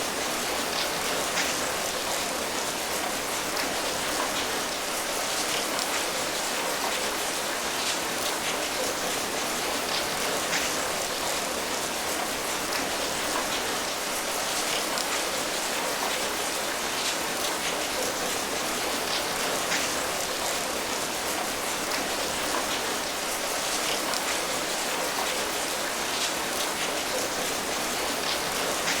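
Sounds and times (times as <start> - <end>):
rain drops pattering: 0.0 - 29.0.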